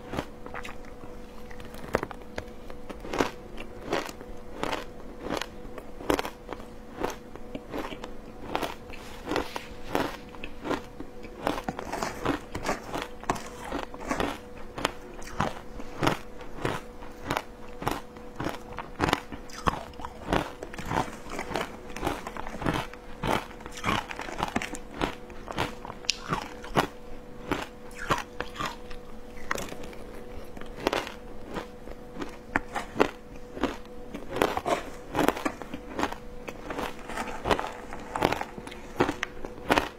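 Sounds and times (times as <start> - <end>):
crunchy ice chewing: 0.0 - 39.9
faint steady hum: 0.0 - 39.9.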